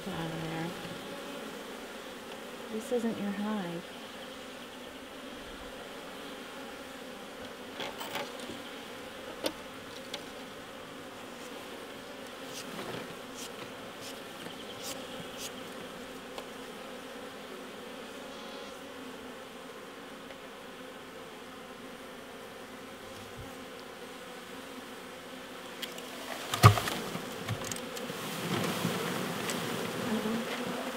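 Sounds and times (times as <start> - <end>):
bees buzzing: 0.0 - 30.9.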